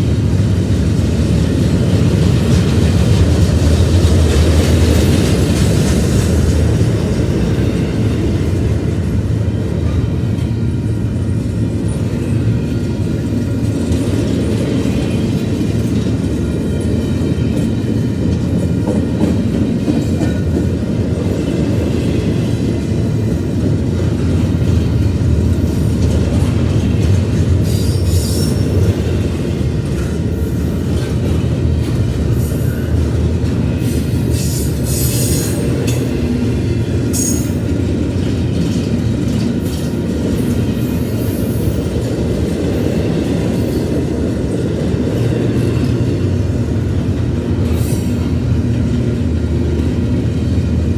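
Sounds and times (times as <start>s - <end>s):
freight train rumbling past: 0.0s - 50.9s.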